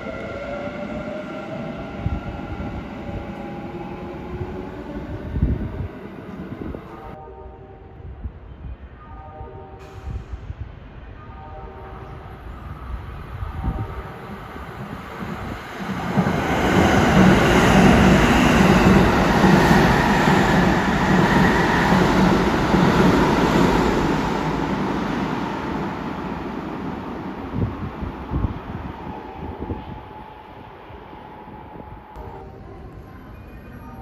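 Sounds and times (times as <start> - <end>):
electric train rumbling: 0.0 - 7.2, 9.8 - 34.0.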